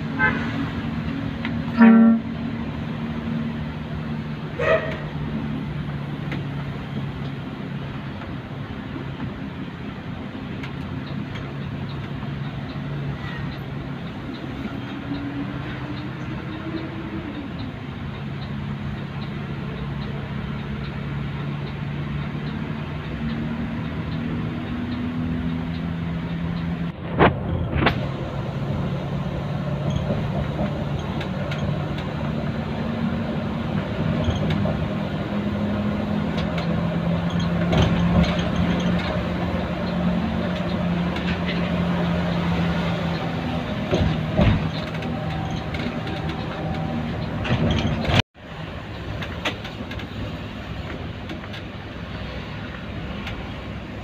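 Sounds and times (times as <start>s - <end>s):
road noise: 0.0s - 54.0s
vehicle engine humming: 0.0s - 54.0s.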